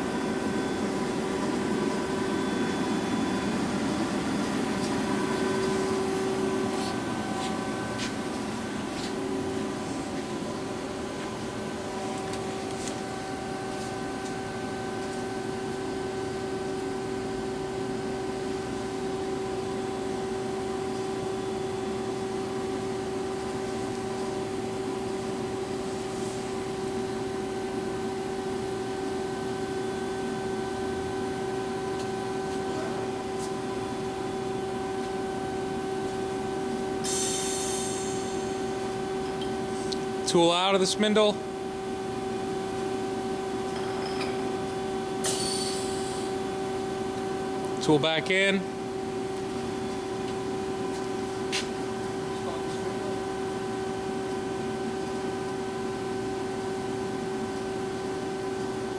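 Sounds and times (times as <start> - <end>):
boring mill humming: 0.0 - 58.9.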